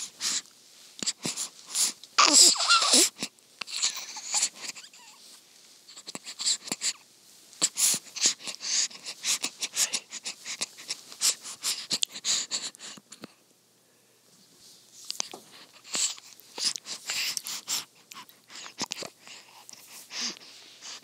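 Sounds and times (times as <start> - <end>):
baby mouth smacks and breathing: 0.2 - 4.8, 5.9 - 7.0, 7.6 - 13.4, 15.0 - 21.0.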